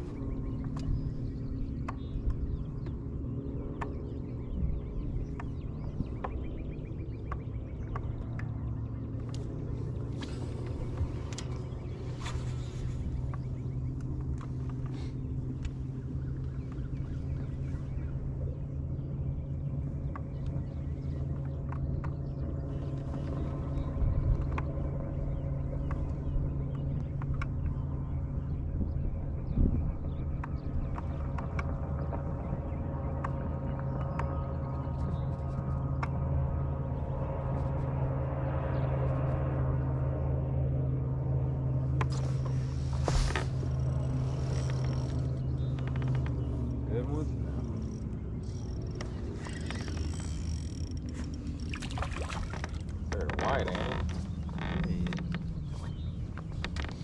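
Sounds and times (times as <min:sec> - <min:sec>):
boat motor humming: 0:00.0 - 0:57.0.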